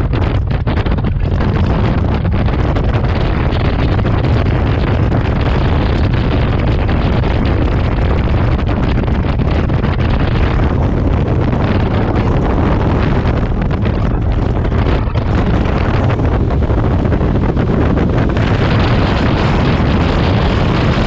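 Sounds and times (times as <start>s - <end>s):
trike engine running: 0.0s - 21.0s
wind buffeting microphone: 0.0s - 21.0s.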